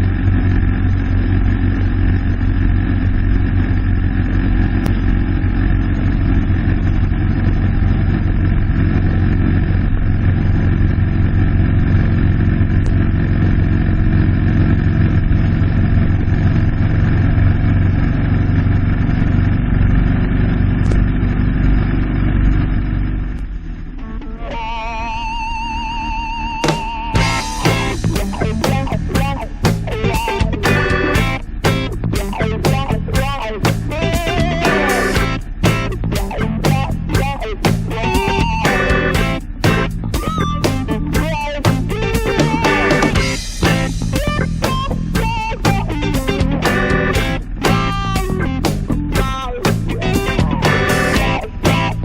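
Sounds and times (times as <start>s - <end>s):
motorcycle engine running: 0.0s - 24.2s, 25.0s - 52.0s.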